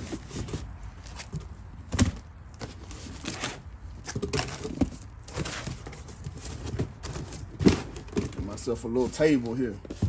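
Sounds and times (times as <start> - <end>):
cardboard flaps rustling and scraping: 0.0 - 10.0.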